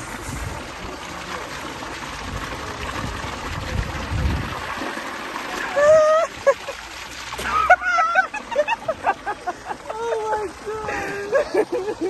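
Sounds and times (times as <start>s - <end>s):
water cascade rushing: 0.0s - 12.0s.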